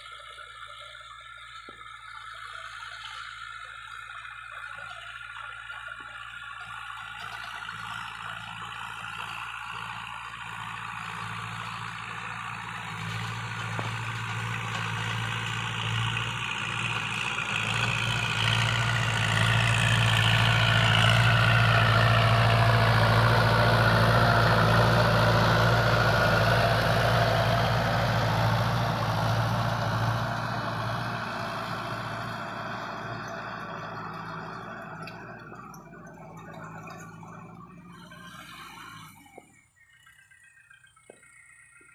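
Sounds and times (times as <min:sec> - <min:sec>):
tractor diesel engine: 0:00.0 - 0:41.9.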